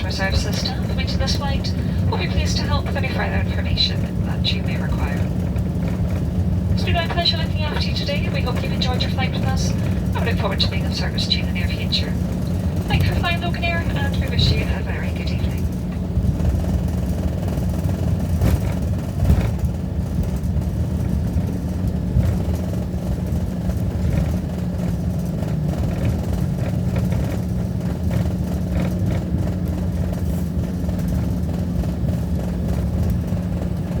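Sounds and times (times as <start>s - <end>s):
turboprop engines droning: 0.0s - 34.0s.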